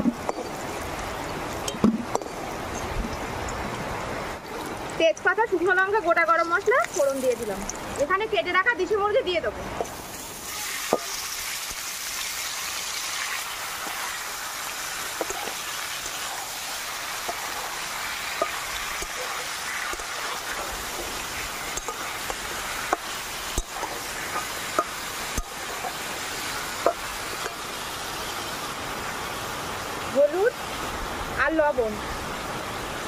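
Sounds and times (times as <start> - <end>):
chicken sizzling in hot oil: 0.0 - 8.2, 9.8 - 30.9.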